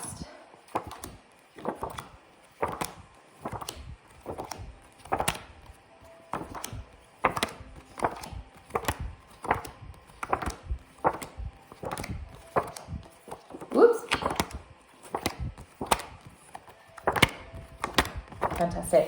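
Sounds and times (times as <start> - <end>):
flashcards flipping: 0.6 - 19.0.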